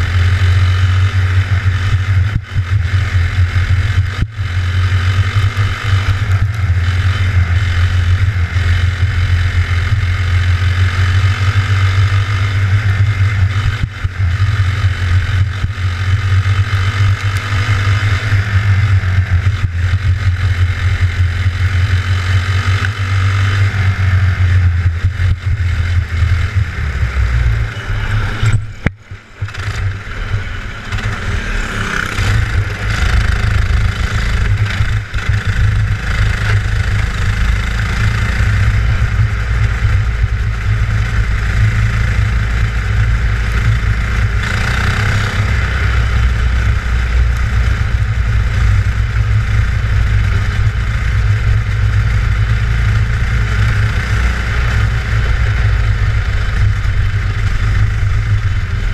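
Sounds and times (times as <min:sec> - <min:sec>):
kart engine running hard: 0:00.0 - 0:58.9.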